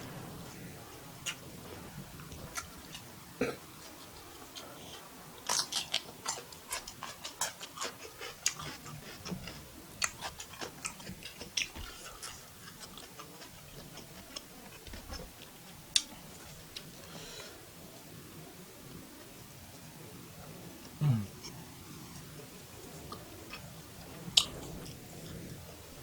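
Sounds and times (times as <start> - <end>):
chewing fried rice: 0.0 - 17.7, 20.8 - 26.0.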